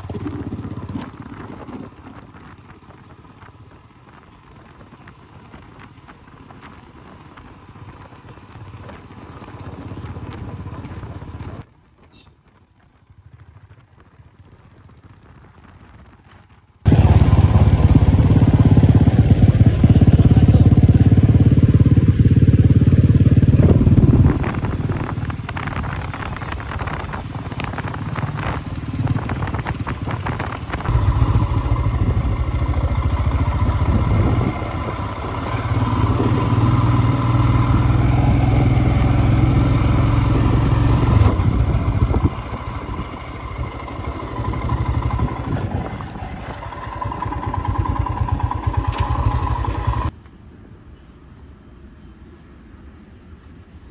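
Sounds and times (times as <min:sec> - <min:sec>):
motorcycle engine running: 0:00.0 - 0:50.1.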